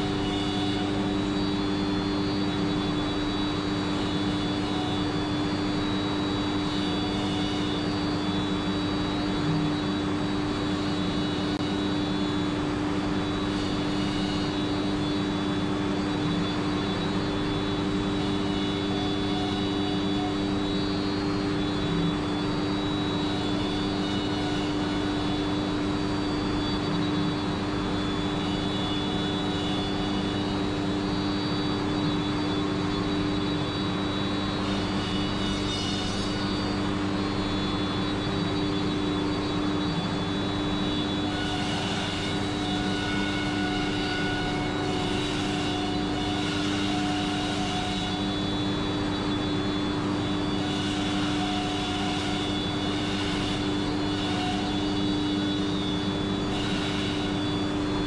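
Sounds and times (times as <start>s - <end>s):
high machine whine: 0.0s - 58.0s
machine hum: 0.0s - 58.0s.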